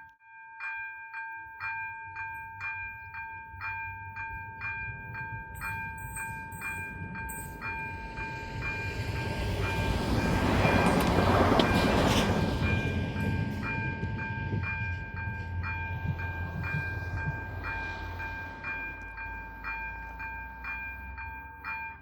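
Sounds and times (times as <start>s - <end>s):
level crossing bells ringing: 0.2s - 22.0s
approaching train rumble: 3.7s - 21.9s.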